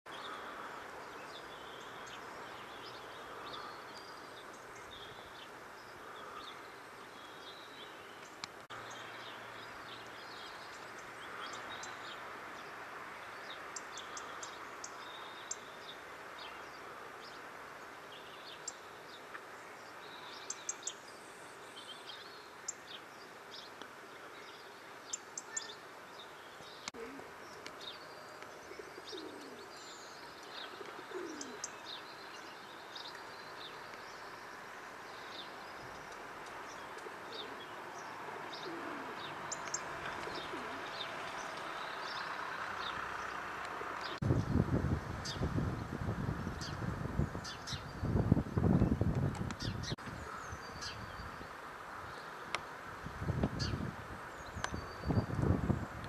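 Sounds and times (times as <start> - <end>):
small birds chirping: 0.1 - 45.6, 46.4 - 56.0.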